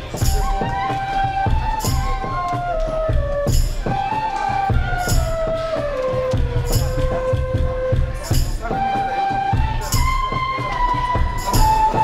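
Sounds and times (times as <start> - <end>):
bamboo flutes playing melody: 0.0 - 12.0
hand drum beats: 0.0 - 12.0.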